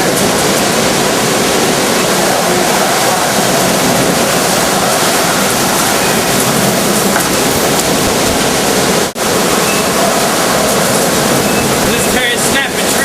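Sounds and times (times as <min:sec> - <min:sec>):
driving rain: 0:00.0 - 0:13.0
hurricane wind: 0:00.0 - 0:13.0.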